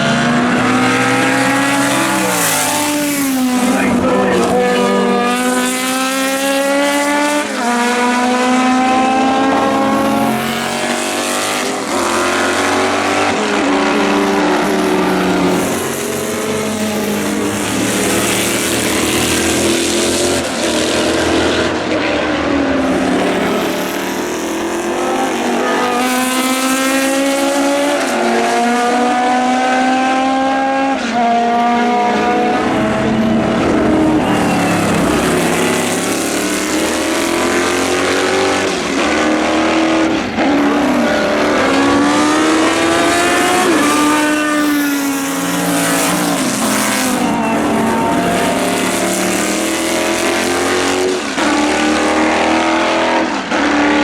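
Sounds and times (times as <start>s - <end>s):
racing car engines at full throttle: 0.0s - 54.0s
racing cars passing by: 0.0s - 54.0s.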